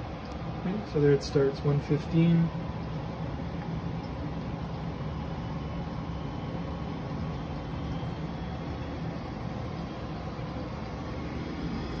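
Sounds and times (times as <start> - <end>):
boiler blower and gas burner humming: 0.0 - 12.0.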